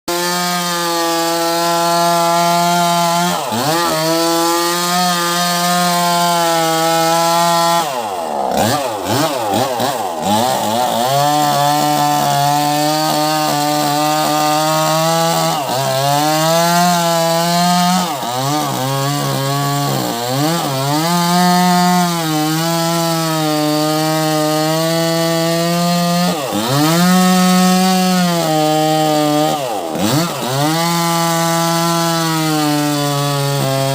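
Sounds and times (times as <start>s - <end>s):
chainsaw sawing through wood: 0.0s - 33.9s.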